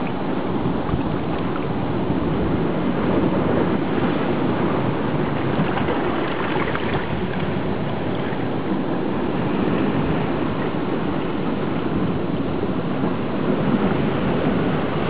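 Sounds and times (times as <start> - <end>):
water rushing underwater: 0.0 - 12.4.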